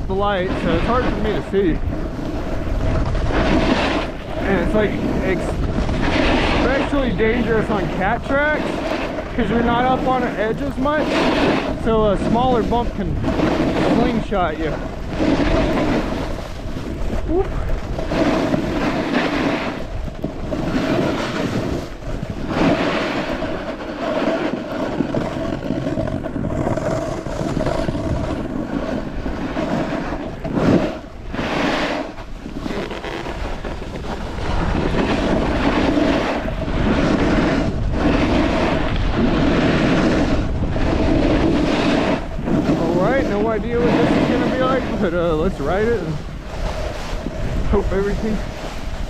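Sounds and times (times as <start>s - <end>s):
snowboard scraping over snow: 0.0s - 49.0s
wind buffeting microphone: 0.0s - 49.0s.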